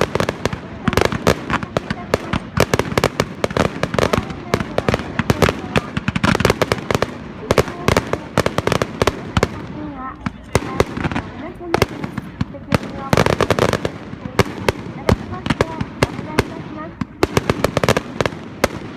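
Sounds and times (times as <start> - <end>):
fireworks crackling and popping: 0.0 - 18.9.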